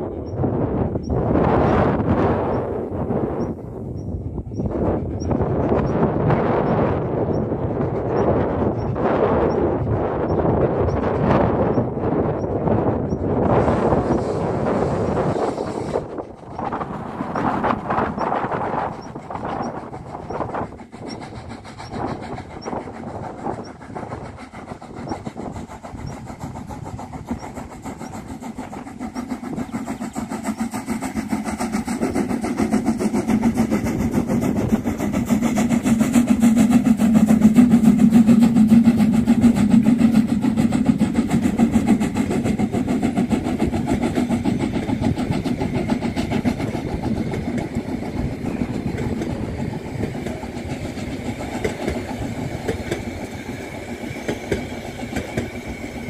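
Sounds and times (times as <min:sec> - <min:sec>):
steam locomotive chuffing: 0:00.0 - 0:56.0
train coaches rolling by: 0:00.0 - 0:56.0.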